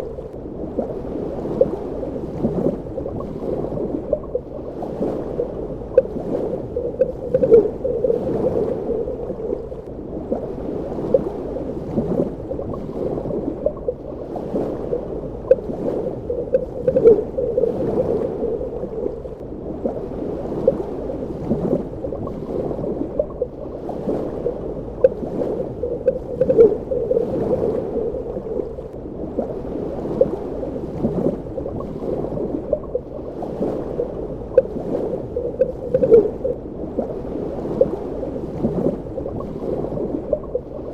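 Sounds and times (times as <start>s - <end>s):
bubbling and gurgling: 0.0s - 40.9s
muffled underwater rumble: 0.0s - 40.9s.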